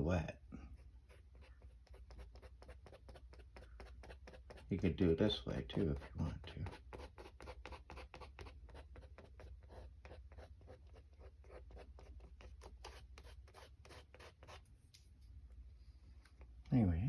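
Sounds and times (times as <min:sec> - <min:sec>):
paintbrush scratching on paper: 0:00.7 - 0:14.8.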